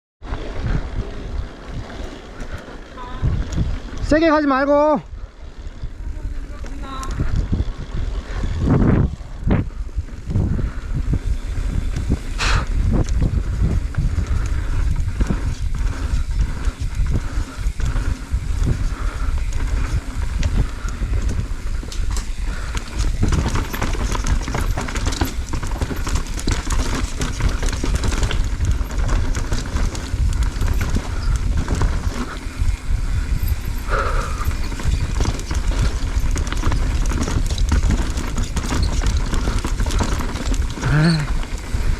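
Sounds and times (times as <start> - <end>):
bike knocking and rattling: 0.2 - 41.9
wind rumble: 0.2 - 41.9.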